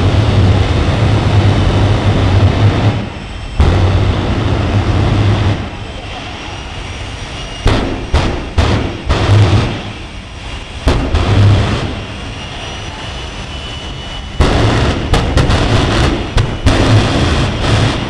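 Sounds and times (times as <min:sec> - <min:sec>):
loud engine blasts: 0:00.0 - 0:18.0
turbojet engine running: 0:00.0 - 0:18.0.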